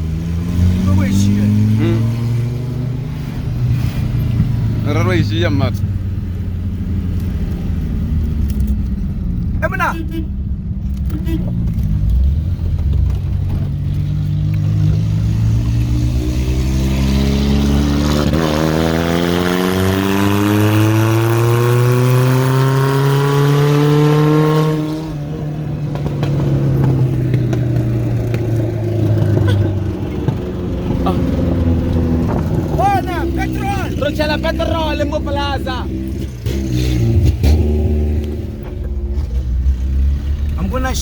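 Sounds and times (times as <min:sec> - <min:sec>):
car engine accelerating hard: 0:00.0 - 0:06.0, 0:11.0 - 0:41.0.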